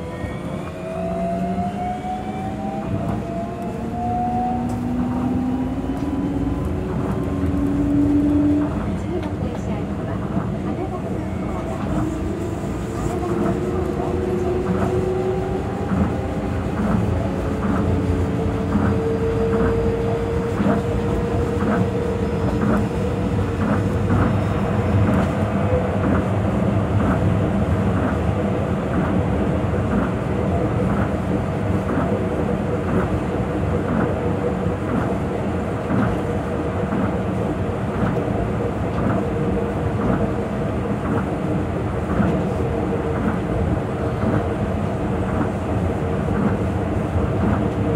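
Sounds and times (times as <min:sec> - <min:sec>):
train rumble and motor whine: 0:00.0 - 0:47.9.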